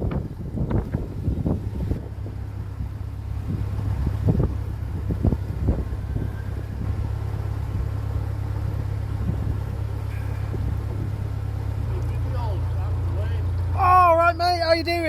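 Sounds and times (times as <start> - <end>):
wind gusts on microphone: 0.0 - 12.2
boat engine humming: 0.0 - 15.0.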